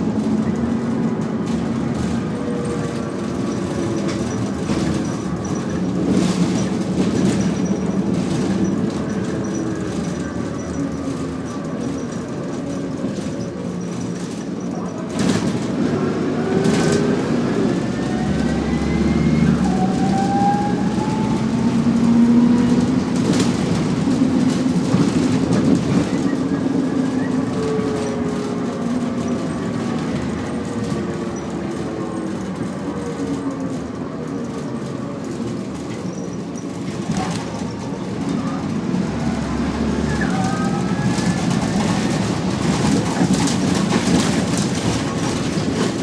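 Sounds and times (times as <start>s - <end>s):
bus engine and drivetrain whine: 0.0s - 46.0s
road noise and rattle: 0.0s - 46.0s.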